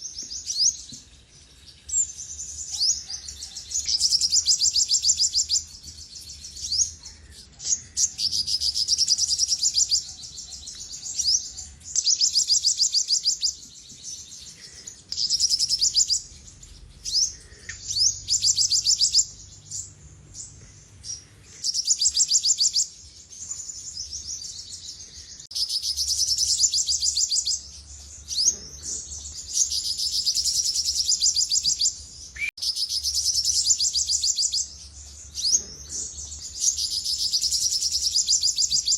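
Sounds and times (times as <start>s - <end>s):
bird singing trilled phrases: 0.0s - 38.9s.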